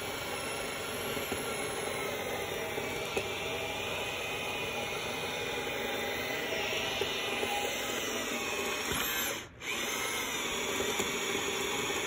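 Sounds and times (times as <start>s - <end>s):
drill driving winch with whine: 0.0s - 12.0s.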